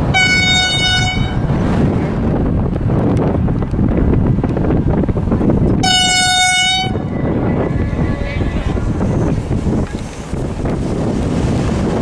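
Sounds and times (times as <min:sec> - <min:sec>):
train rumbling past: 0:00.0 - 0:12.0
wind buffeting microphone: 0:00.0 - 0:12.0.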